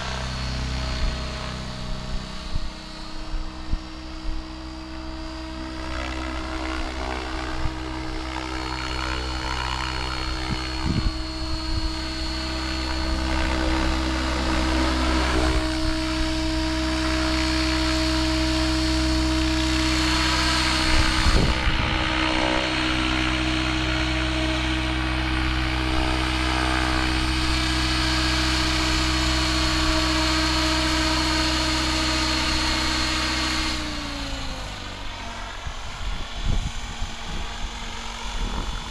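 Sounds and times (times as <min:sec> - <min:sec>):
rc helicopter motor and rotor whine: 0:00.0 - 0:38.9.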